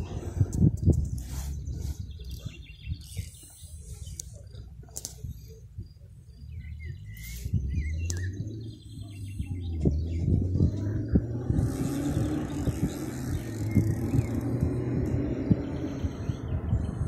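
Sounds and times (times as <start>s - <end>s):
low rumble: 0.0s - 17.0s
small birds chirping: 0.0s - 17.0s.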